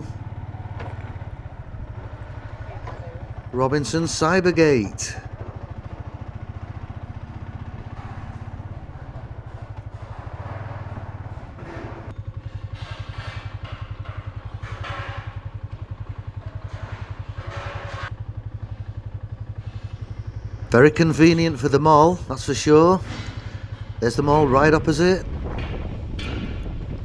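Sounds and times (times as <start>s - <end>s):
street traffic passing: 0.0s - 27.0s
vehicle engine running: 0.0s - 27.0s.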